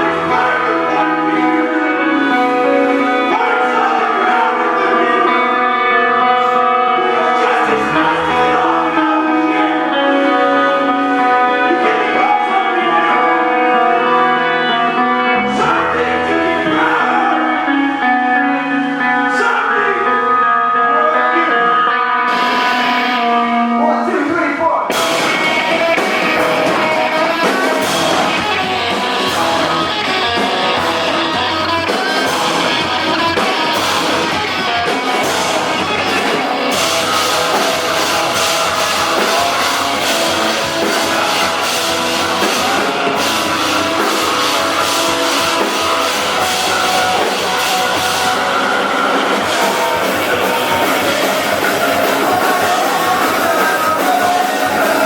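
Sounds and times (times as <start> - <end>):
punk rock band playing: 0.0 - 55.0.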